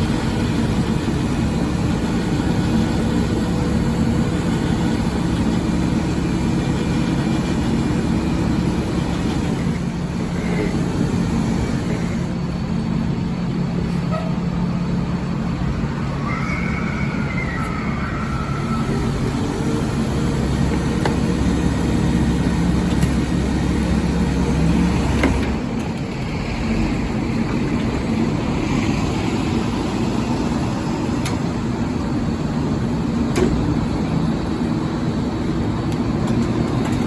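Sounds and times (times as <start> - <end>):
garbage truck engine running: 0.0 - 37.0.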